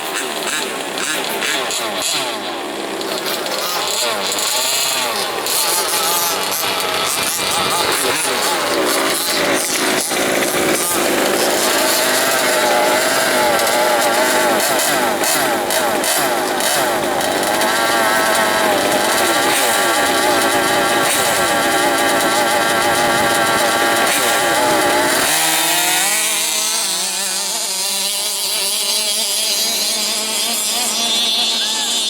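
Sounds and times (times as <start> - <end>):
two-stroke engine revving: 0.0 - 32.0.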